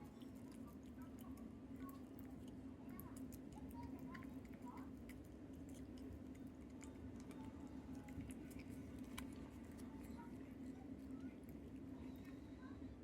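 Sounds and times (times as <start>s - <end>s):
cat eating with wet mouth clicks: 0.0s - 12.4s.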